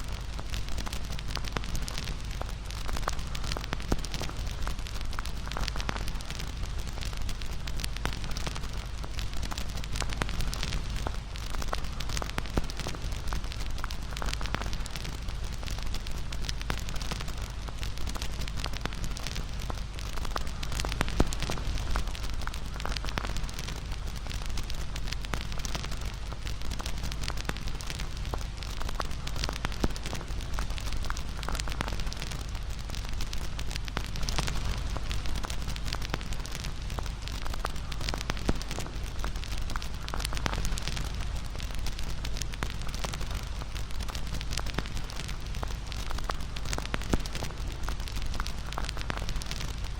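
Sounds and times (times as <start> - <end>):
campfire crackling: 0.0 - 49.9
fire pops: 0.1 - 49.9.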